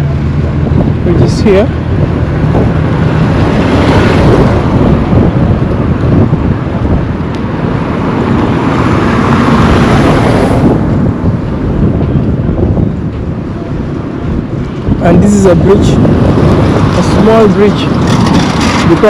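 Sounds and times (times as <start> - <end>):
road traffic: 0.0 - 19.0
vehicles passing close by: 0.0 - 19.0
wind rumbling on microphone: 0.0 - 19.0.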